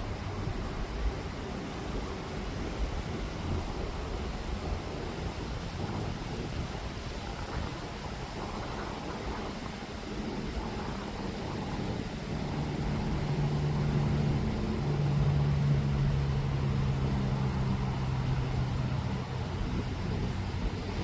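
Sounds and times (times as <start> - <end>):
motor engine droning: 0.0 - 21.0
steady rushing background: 0.0 - 21.0.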